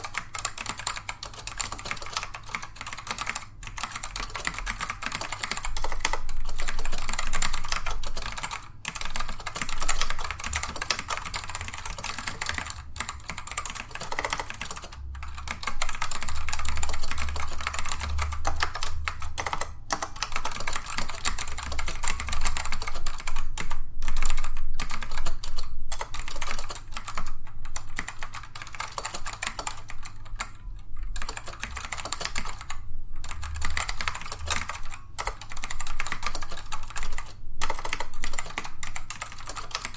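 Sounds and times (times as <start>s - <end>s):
keyboard typing clatter: 0.0s - 39.9s.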